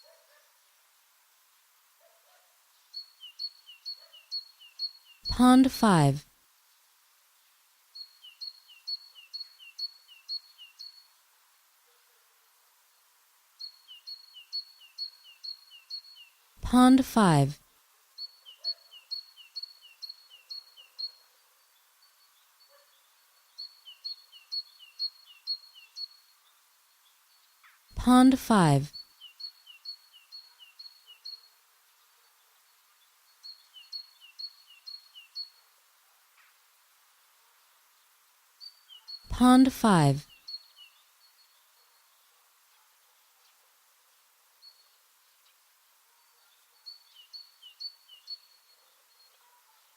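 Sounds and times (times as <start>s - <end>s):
faint outdoor hiss: 0.0s - 49.9s
songbird singing: 2.0s - 49.9s.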